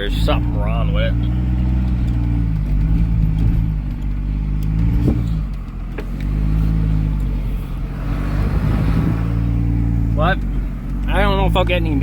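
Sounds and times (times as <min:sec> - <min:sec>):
pickup engine running under load: 0:00.0 - 0:12.0.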